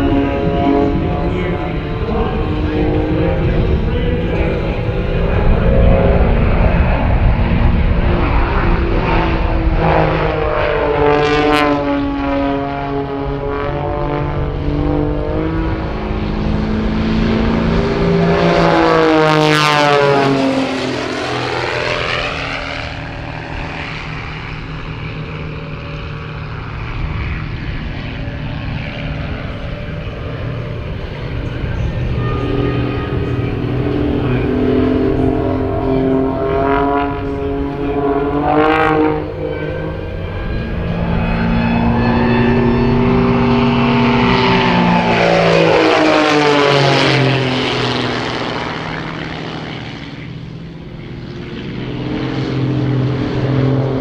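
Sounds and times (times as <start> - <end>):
propeller planes droning: 0.0 - 54.0.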